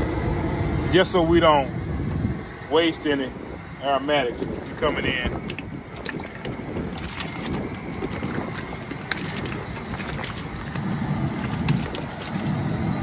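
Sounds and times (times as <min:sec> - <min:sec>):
gas burner rushing rumble: 0:00.0 - 0:13.0.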